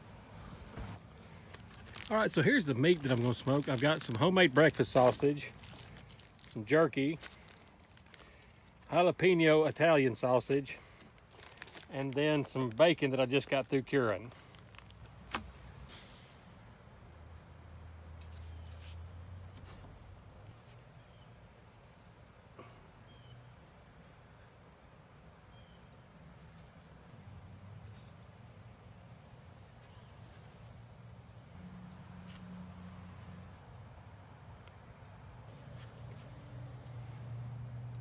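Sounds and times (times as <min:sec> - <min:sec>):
high insect drone: 0:00.0 - 0:38.0.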